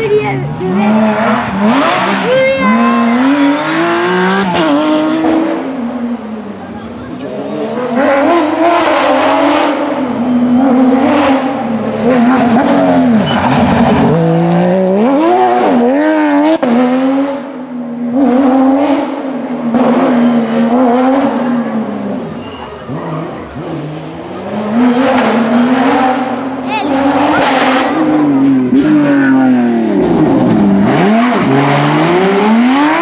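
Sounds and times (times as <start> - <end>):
rally car engine at full throttle: 0.0 - 33.0.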